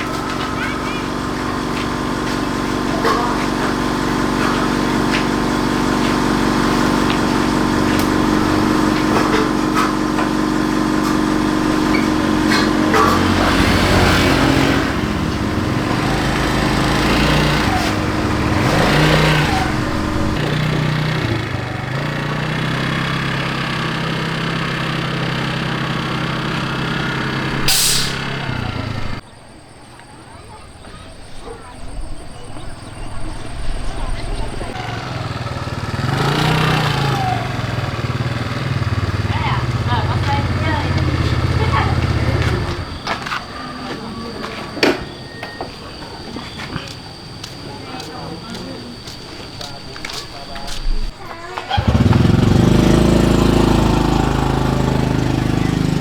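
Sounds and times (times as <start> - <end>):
scooter engine idling and revving: 0.0 - 29.2, 31.8 - 56.0.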